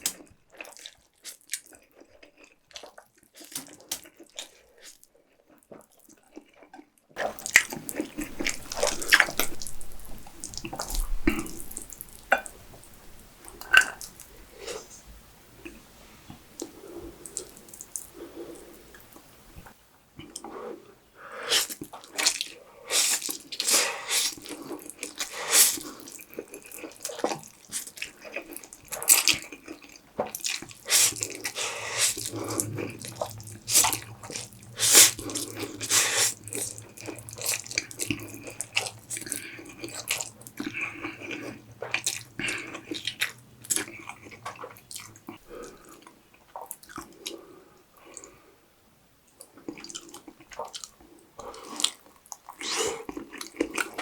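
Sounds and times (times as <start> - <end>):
wet chewing and smacking: 0.0 - 14.8, 21.6 - 47.4, 49.3 - 54.0.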